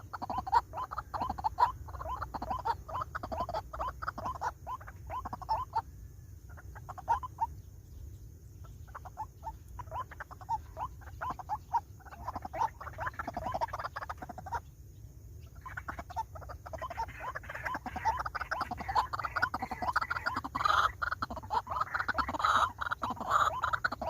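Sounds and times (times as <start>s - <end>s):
waterhen croaking calls: 0.0s - 7.6s, 8.6s - 14.7s, 15.4s - 24.0s.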